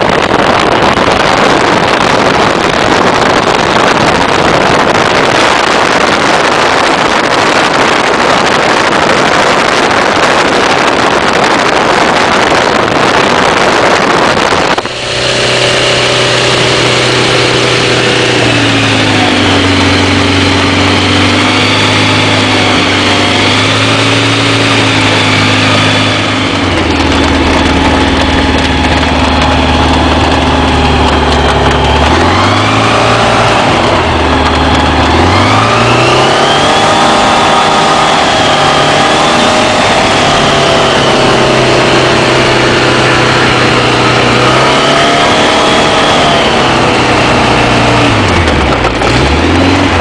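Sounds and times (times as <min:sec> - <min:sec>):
rush of air noise: 0:00.0 - 0:49.3
aircraft piston engine and propeller: 0:00.0 - 0:50.0.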